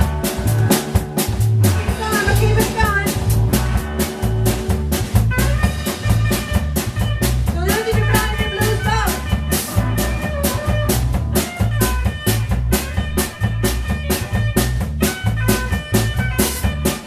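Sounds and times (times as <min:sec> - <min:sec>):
bending lead guitar line: 0:00.0 - 0:17.0
drum kit and bass beat: 0:00.0 - 0:17.0.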